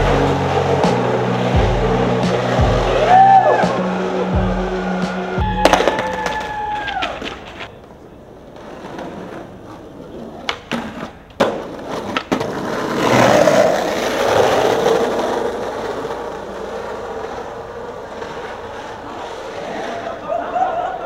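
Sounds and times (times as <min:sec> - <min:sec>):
skateboard clacks: 0:00.0 - 0:04.2, 0:04.9 - 0:20.3
skateboard wheels rolling on pavement: 0:00.0 - 0:21.0.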